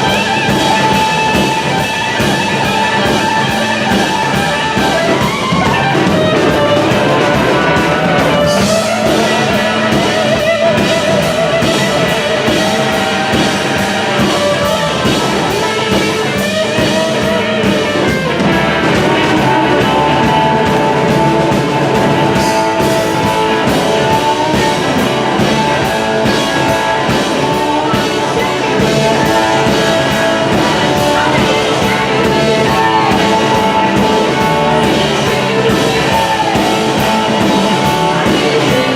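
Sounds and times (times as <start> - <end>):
drum kit steady beat: 0.0 - 38.9
electric guitar boogie: 0.0 - 38.9.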